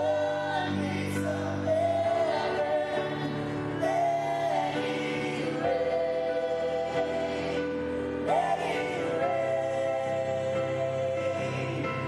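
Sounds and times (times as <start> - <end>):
group singing slow praise song: 0.0 - 12.0.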